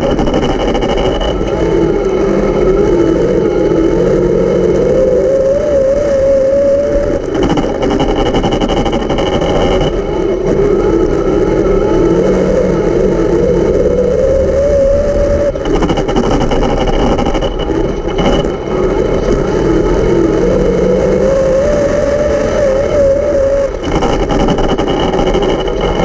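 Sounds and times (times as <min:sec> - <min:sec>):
race car engines accelerating: 0:00.0 - 0:26.0.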